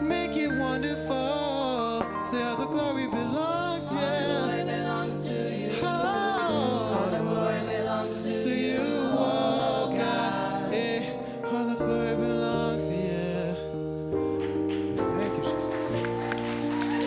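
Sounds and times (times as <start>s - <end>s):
person singing gospel song: 0.0s - 17.0s
sustained instrumental accompaniment: 0.0s - 17.0s.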